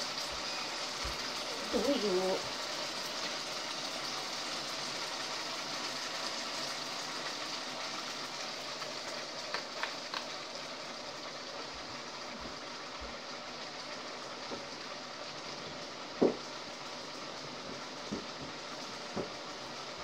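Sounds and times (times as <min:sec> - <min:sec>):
chicken wings sizzling in pan: 0:00.0 - 0:20.0.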